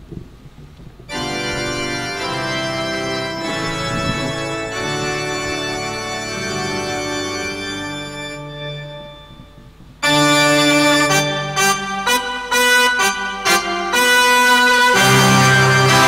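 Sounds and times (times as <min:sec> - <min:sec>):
electronic keyboard organ chords: 0:01.1 - 0:16.0.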